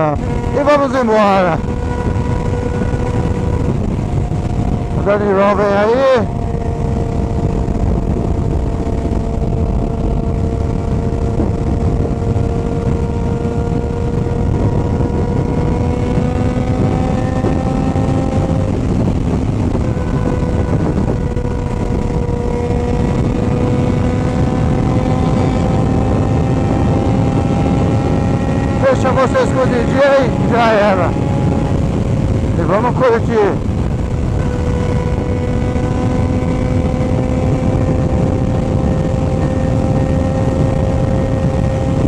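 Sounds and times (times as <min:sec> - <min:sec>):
motorcycle engine running: 0:00.0 - 0:42.0
wind rumble on microphone: 0:00.0 - 0:42.0.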